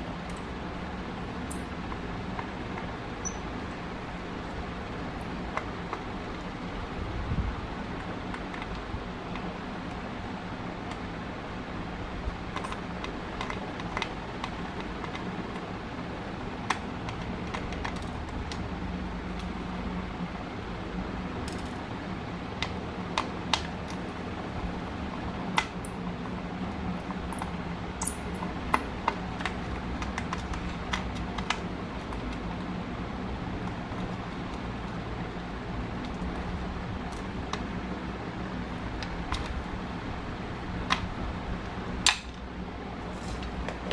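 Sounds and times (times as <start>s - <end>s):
low fan hum: 0.0s - 43.9s.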